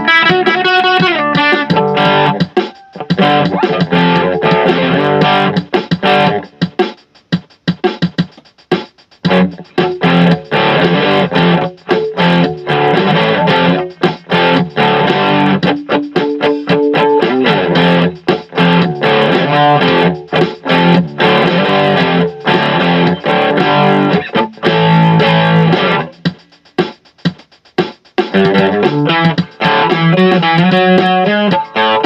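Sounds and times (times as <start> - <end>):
electric guitar chords and riffs: 0.0 - 6.8, 9.3 - 26.5, 28.3 - 32.0.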